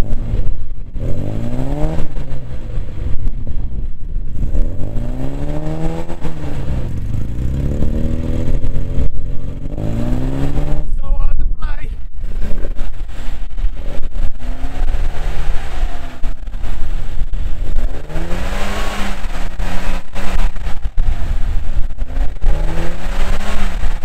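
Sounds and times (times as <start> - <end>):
car engine revving: 0.0 - 24.0
wind buffeting microphone: 0.0 - 24.0.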